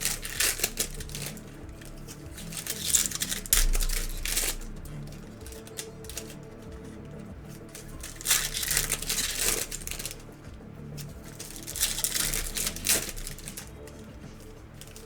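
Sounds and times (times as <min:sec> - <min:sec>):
foil wrappers crinkling and tearing: 0:00.0 - 0:15.0
quiet background music: 0:00.0 - 0:15.0.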